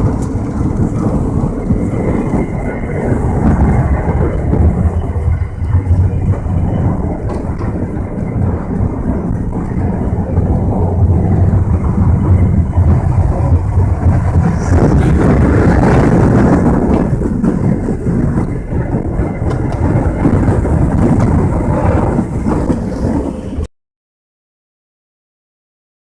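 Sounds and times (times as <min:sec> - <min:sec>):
moving train rumbling: 0:00.0 - 0:23.7.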